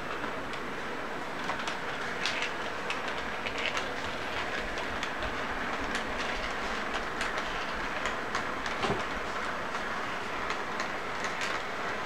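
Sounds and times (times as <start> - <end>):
model train whir and rumble: 0.0 - 12.0.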